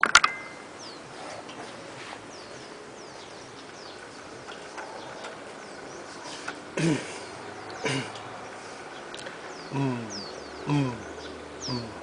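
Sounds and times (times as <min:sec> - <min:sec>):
background hiss: 0:00.0 - 0:12.0
birds chirping: 0:00.0 - 0:12.0.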